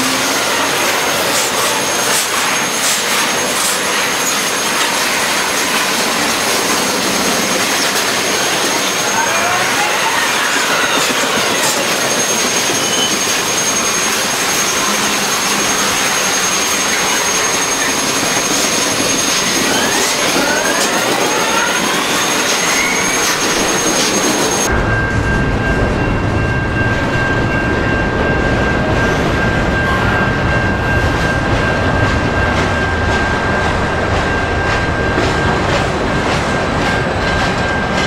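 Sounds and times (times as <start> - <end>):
high wheel whines: 0.0 - 38.0
steel train wheels rolling on rail: 0.0 - 38.0.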